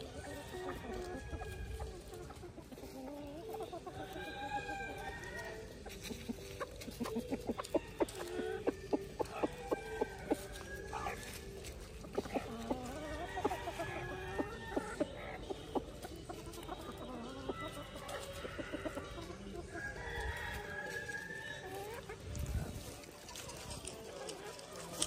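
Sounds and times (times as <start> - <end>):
chickens clucking and calling: 0.0 - 25.0.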